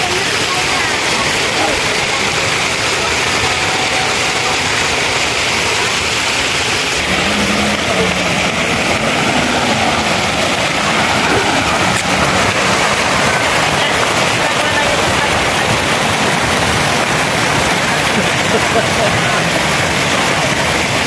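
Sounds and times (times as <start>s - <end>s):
fountain water splashing: 0.0s - 21.0s.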